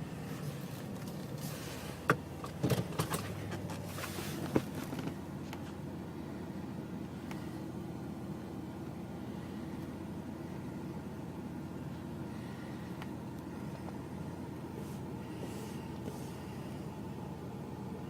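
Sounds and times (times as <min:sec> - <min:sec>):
car low hum: 0:00.0 - 0:18.0.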